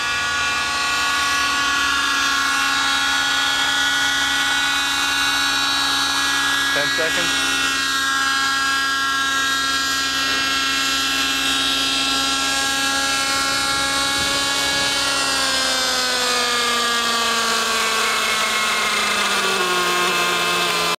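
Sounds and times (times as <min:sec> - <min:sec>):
model helicopter engine whine: 0:00.0 - 0:21.0.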